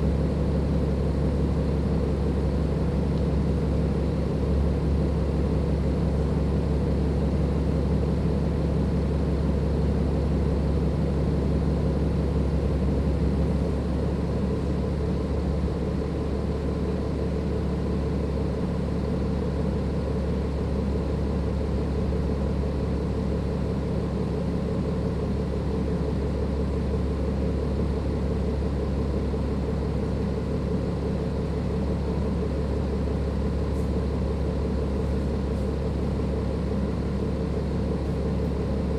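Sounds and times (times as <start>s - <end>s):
diesel bus engine running: 0.0s - 38.9s.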